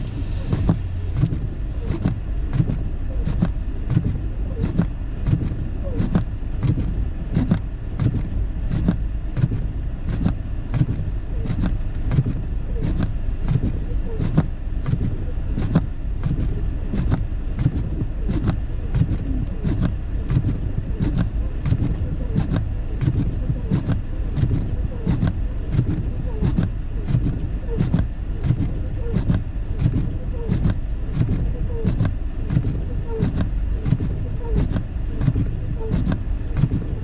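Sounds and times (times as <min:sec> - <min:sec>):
car road rumble: 0:00.0 - 0:37.0.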